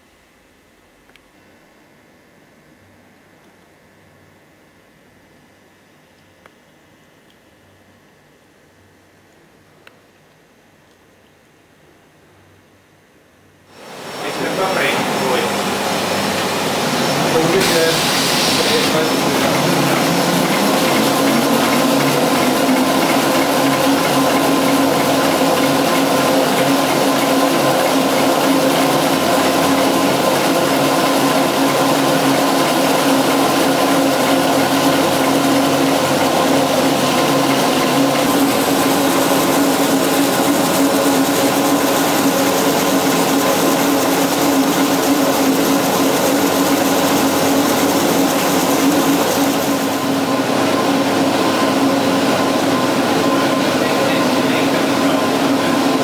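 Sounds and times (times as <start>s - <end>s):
machine whirring with constant hum: 0.0s - 56.0s.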